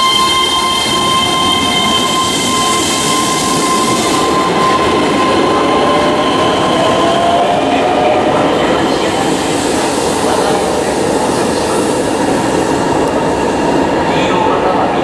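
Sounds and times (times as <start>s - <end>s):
electric train rumbling in station: 0.0s - 15.0s.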